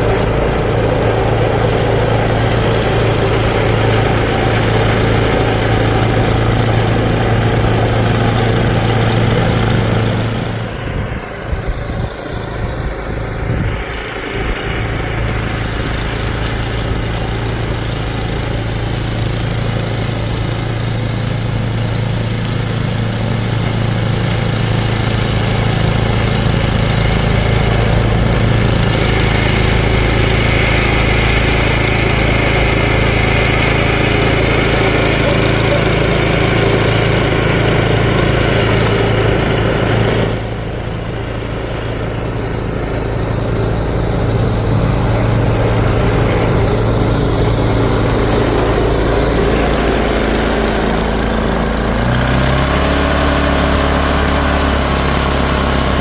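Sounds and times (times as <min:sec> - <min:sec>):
auger cutting icy snow: 0:00.0 - 0:56.0
snowblower engine running: 0:00.0 - 0:56.0.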